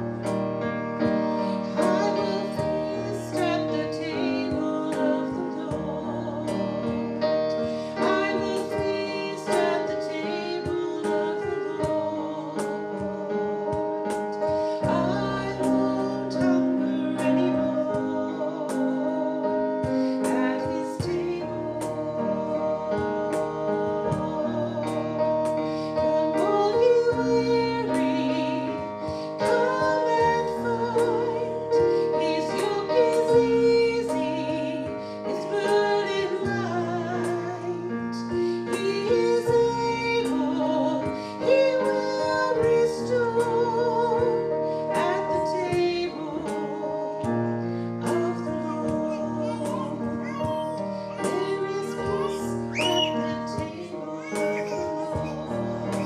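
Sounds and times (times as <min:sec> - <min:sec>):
piano accompaniment: 0:00.0 - 0:56.0
woman singing: 0:01.0 - 0:56.0.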